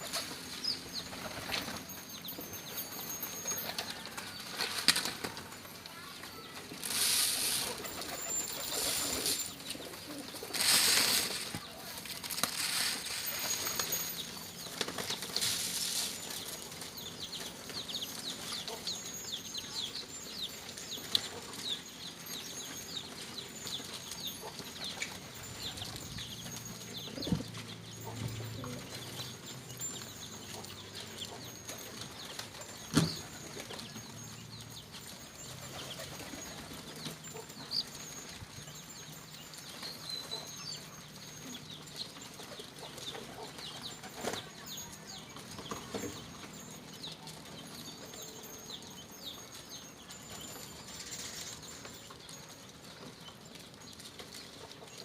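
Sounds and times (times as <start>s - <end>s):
pigeons chirping: 0.0s - 55.0s.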